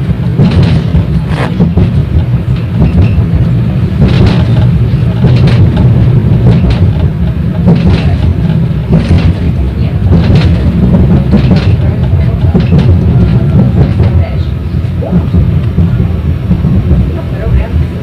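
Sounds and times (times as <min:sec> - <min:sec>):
tram wheels rumbling: 0:00.0 - 0:18.0
wheels knocking on track joints: 0:00.0 - 0:18.0.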